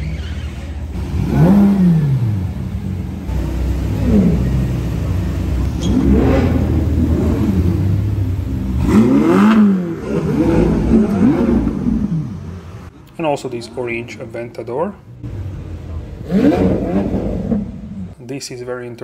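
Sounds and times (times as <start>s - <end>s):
car engines idling and revving: 0.0s - 18.2s.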